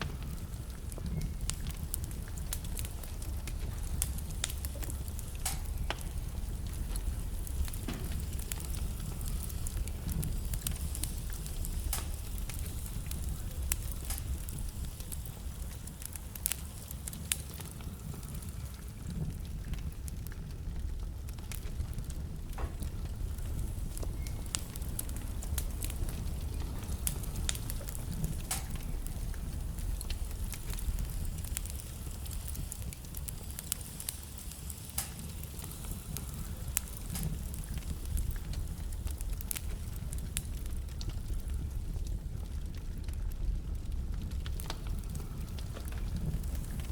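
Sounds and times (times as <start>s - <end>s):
fire crackling and popping: 0.0s - 46.9s
low rumble of flames: 0.0s - 46.9s.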